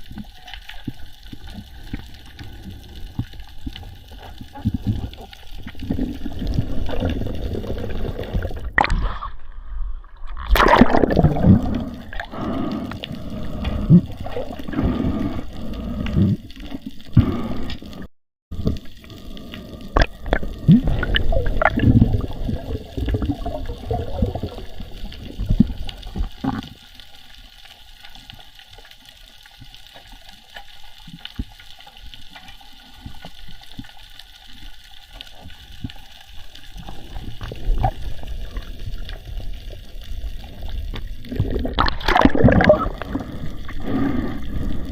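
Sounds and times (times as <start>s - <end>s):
water sloshing and gurgling: 0.0s - 44.9s.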